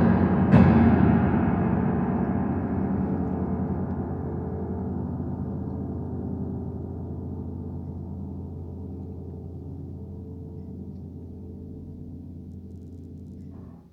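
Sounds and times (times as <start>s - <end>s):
piano chord ringing: 0.0s - 13.9s.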